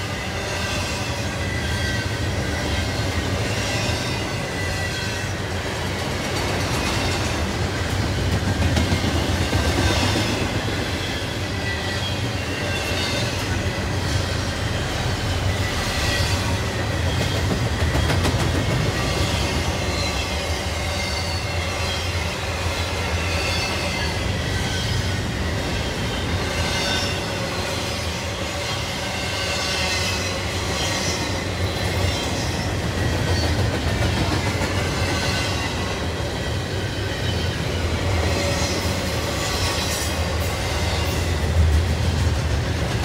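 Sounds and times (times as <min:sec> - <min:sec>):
freight train wheels rumbling: 0:00.0 - 0:43.0.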